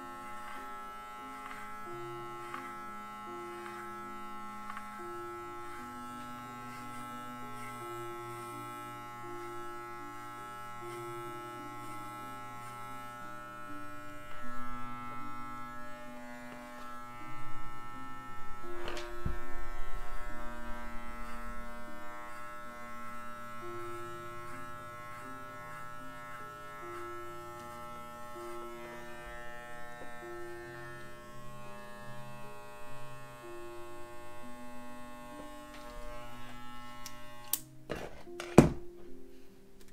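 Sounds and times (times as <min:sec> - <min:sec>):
electric clippers buzzing: 0:00.0 - 0:38.8.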